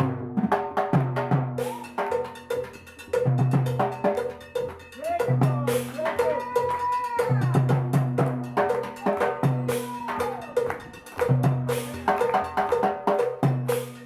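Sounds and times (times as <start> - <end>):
cowbell pattern: 0.9 - 14.0
timbale and drum strokes: 1.5 - 14.0.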